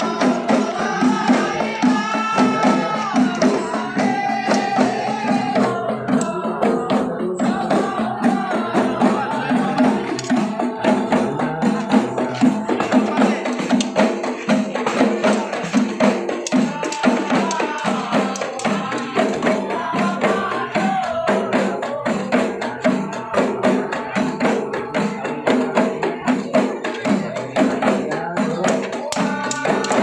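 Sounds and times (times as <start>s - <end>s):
frame drums beaten by hand: 0.0s - 30.0s
voices chanting: 0.0s - 30.0s.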